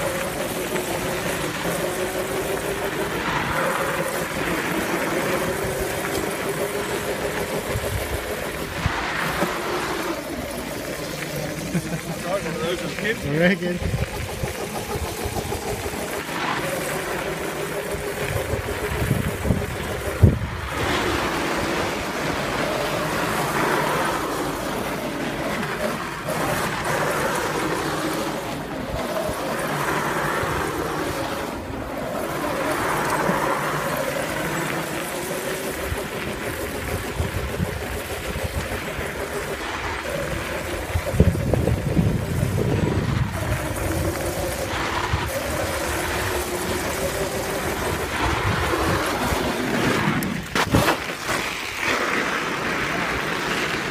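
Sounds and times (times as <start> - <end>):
electric motor and chain whine: 0.0 - 53.9
wheels skidding on gravel: 0.0 - 53.9.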